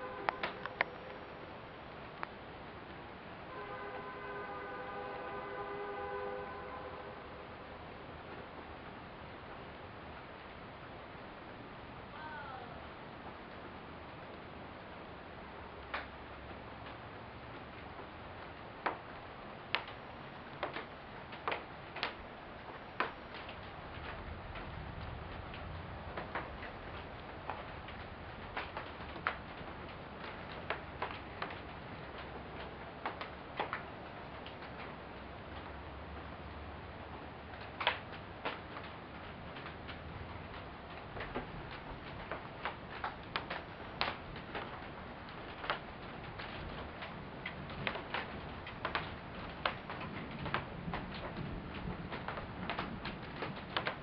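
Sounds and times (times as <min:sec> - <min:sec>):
raindrops ticking on hard surface: 0:00.0 - 0:05.6, 0:06.6 - 0:54.0
steady hiss: 0:00.0 - 0:54.0.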